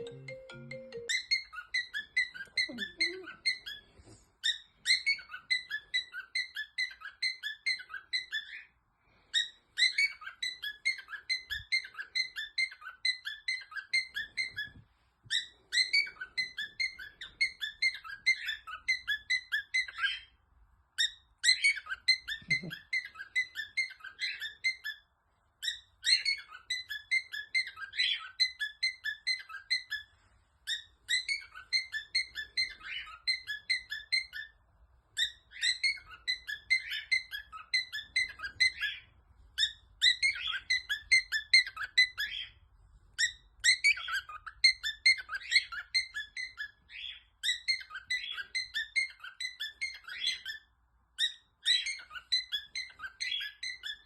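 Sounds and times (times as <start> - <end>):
high bird-like chirping: 0.0 - 54.0.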